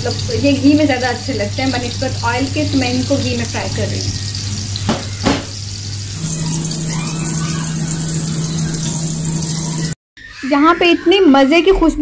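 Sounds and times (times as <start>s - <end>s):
meat sizzling on griddle: 0.0s - 9.8s.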